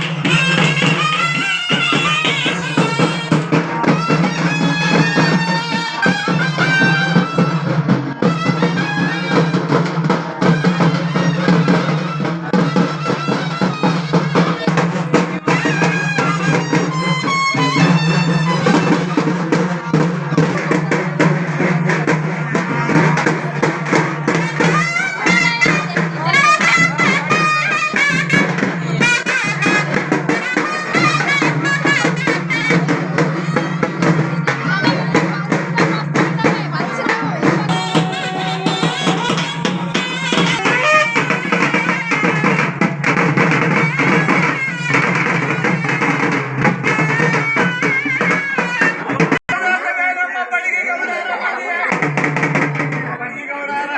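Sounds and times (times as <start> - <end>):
wind instrument melody: 0.0 - 49.4
drums beating: 0.0 - 49.7, 51.9 - 53.4.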